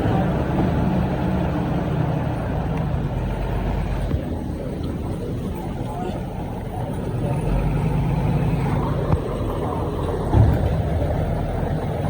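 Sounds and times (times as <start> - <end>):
heavy diesel engine under load: 0.0 - 12.0.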